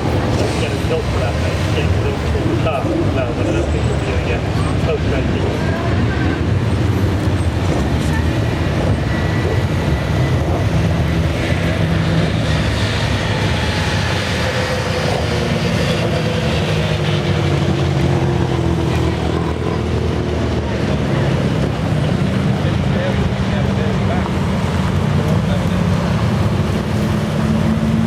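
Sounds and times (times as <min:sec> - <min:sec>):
racing car engines running: 0:00.0 - 0:28.0.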